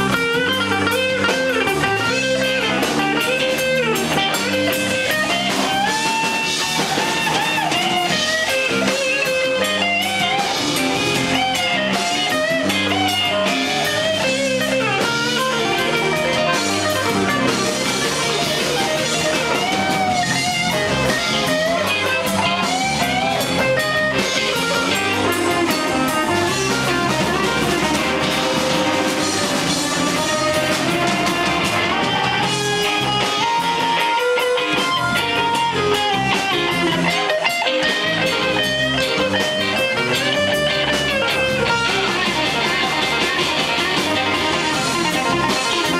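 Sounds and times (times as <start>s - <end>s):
drum kit: 0.0s - 45.9s
electric bass: 0.0s - 45.9s
electric guitar bending notes: 0.0s - 45.9s.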